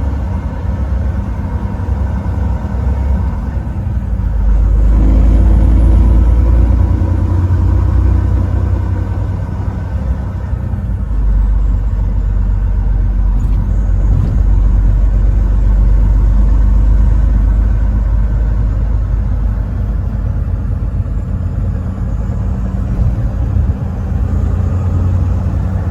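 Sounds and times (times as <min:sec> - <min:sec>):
truck driving at highway speed: 0:00.0 - 0:25.9.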